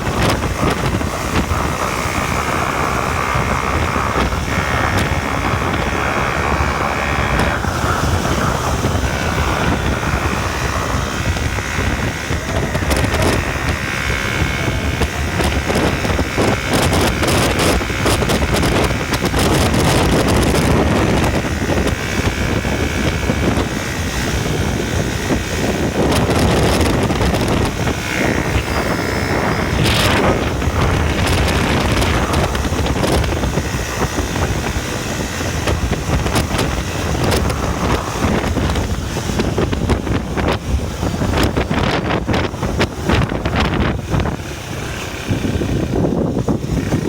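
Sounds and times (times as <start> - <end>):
atv engine running: 0.0 - 47.0
wind buffeting microphone: 0.0 - 47.0.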